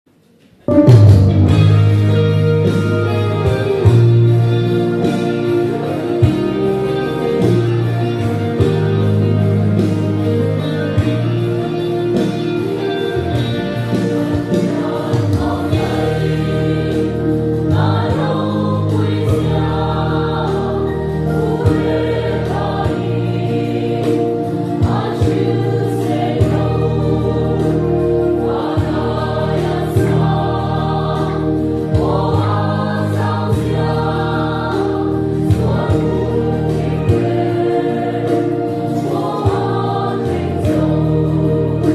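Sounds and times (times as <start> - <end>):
mixed choir singing: 0.7 - 41.9.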